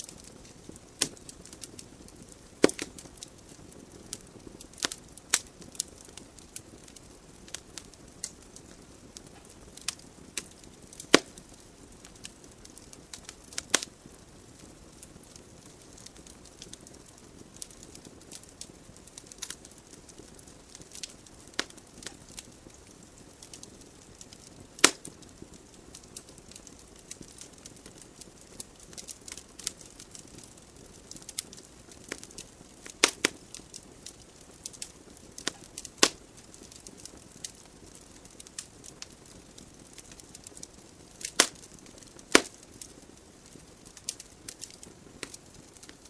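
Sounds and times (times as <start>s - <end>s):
hiss of fireplace flames: 0.0s - 46.0s
logs crackling and popping: 0.0s - 46.0s.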